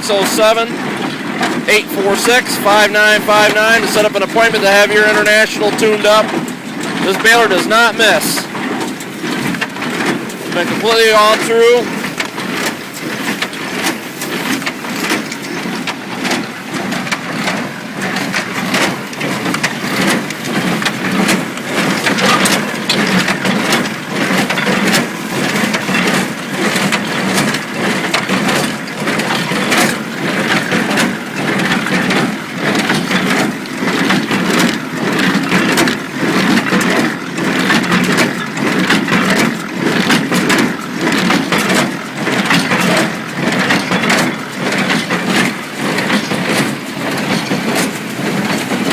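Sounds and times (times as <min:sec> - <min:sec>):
hay baler running: 0:00.0 - 0:48.9.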